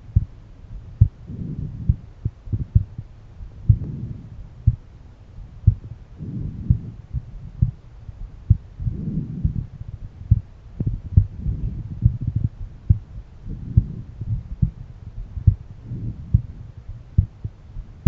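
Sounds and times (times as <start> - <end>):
heartbeat thumps: 0.0 - 18.0
soft low rushing noise: 0.0 - 18.0.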